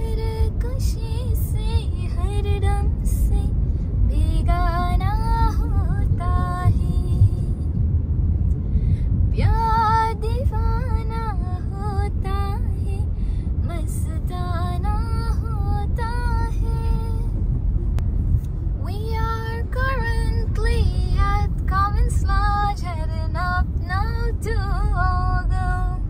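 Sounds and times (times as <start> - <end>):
car interior rumble: 0.0 - 26.0.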